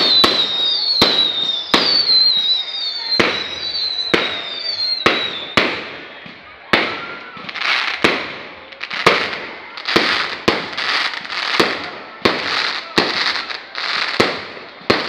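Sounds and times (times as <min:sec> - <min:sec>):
crackling fireworks hiss: 0:00.0 - 0:15.0
fireworks bangs: 0:00.0 - 0:15.0.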